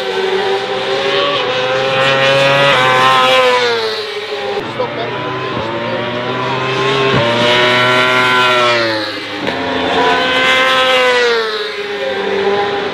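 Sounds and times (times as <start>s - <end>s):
racing motorcycle engines revving: 0.0s - 12.9s.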